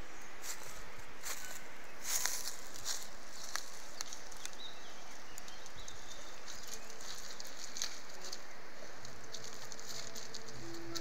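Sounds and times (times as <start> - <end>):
footsteps on pebbles: 0.4 - 4.7, 5.6 - 11.0.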